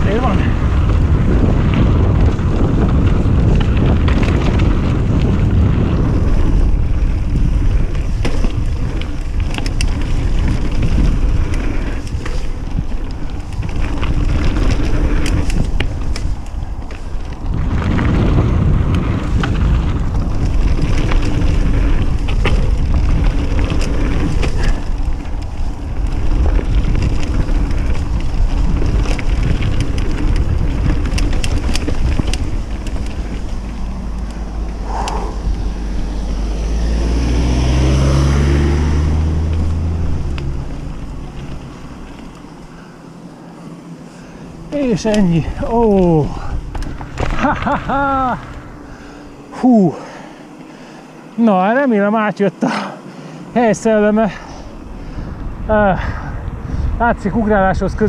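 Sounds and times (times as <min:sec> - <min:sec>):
wind buffeting microphone: 0:00.0 - 0:51.3, 0:53.3 - 0:58.0
bike clattering over bumps: 0:00.0 - 0:58.0
tyres rolling over loose ground: 0:00.0 - 0:58.0.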